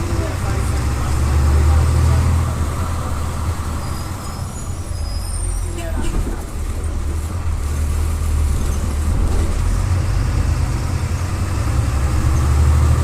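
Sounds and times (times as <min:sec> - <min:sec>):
diesel bus engine drone: 0:00.0 - 0:13.0.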